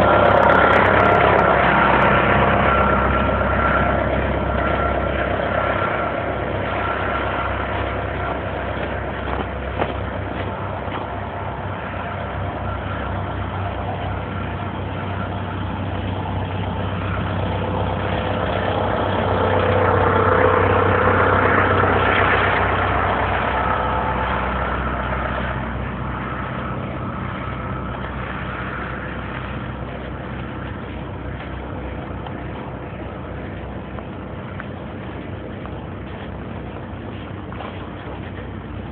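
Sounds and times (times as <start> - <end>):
vehicle engine humming: 0.0 - 38.9.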